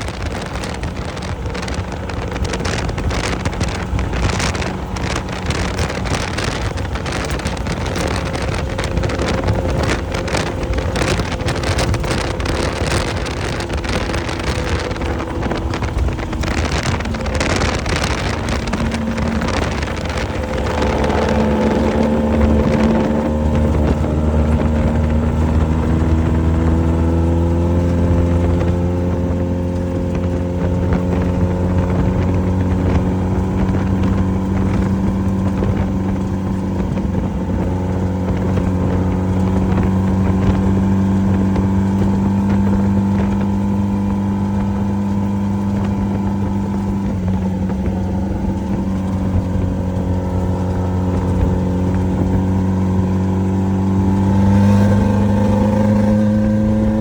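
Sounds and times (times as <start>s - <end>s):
race vehicle engine running: 0.0s - 57.0s
rattle and knocks: 0.0s - 57.0s.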